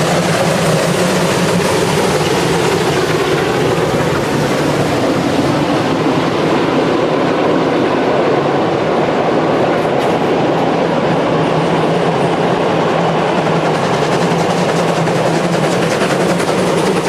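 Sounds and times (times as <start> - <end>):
train running on track: 0.0 - 17.0.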